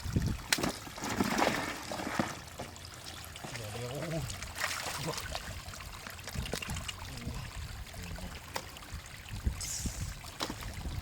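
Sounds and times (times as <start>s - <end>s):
small water splashes: 0.0s - 11.0s
water sloshing and trickling: 0.0s - 11.0s.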